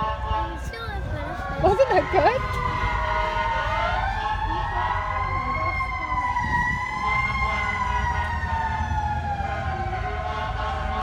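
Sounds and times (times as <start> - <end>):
fire truck siren wailing: 0.0 - 11.0.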